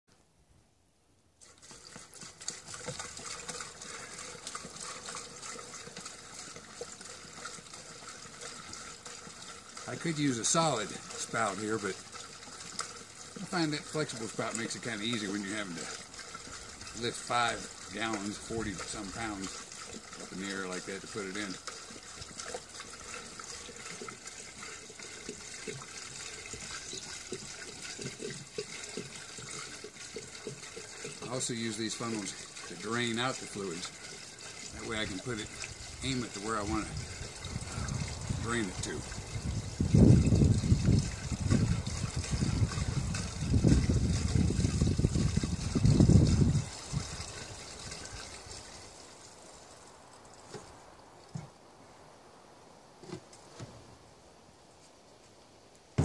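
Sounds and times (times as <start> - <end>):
fuel pouring into tank: 1.4 - 51.6.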